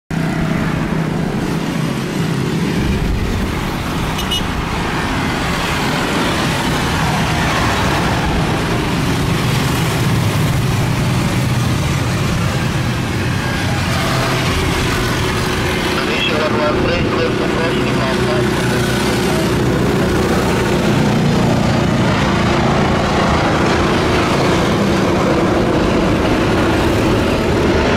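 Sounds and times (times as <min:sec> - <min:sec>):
road traffic rumble: 0:00.1 - 0:27.9.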